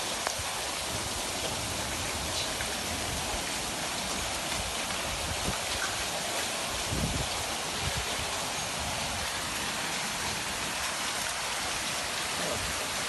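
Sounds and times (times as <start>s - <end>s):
floodwater rushing: 0.0s - 13.0s
heavy rain hiss: 0.0s - 13.0s.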